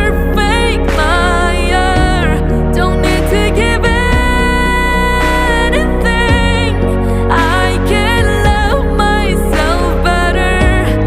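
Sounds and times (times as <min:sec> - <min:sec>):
held bass notes: 0:00.0 - 0:11.0
sung melody: 0:00.0 - 0:11.0.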